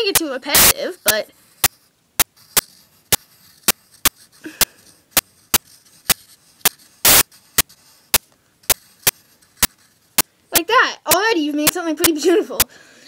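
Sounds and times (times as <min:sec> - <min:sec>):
pencil scratching on paper: 0:00.0 - 0:12.4
pencil tapping on paper: 0:01.0 - 0:12.3.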